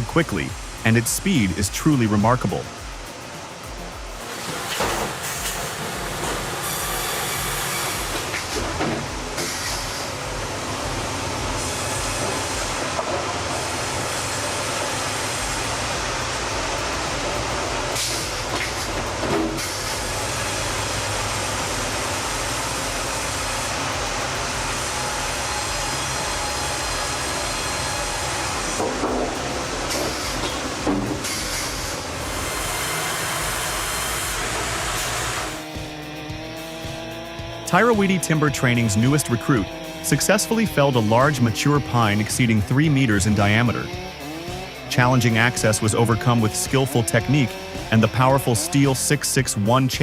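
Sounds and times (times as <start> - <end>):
bandsaw sawmill cutting: 0.0 - 50.0.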